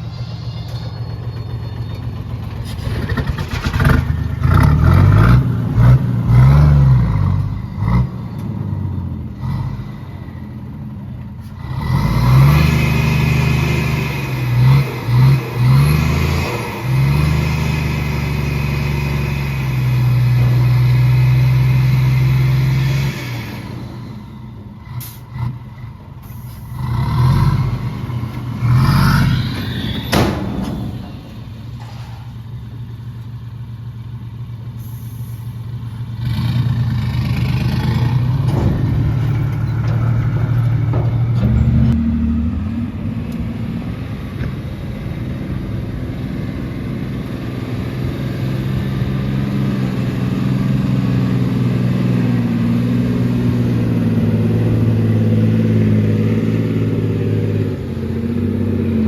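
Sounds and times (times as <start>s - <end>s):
diesel machinery engines revving: 0.0s - 59.0s.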